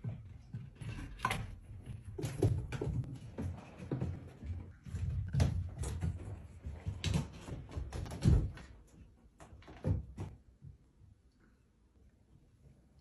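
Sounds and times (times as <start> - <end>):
knocks and thumps: 0.0 - 10.4.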